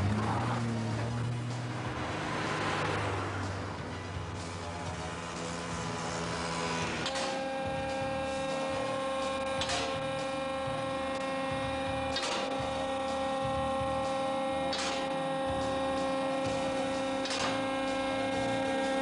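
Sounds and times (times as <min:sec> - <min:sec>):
car lift motor humming: 0:00.0 - 0:19.0.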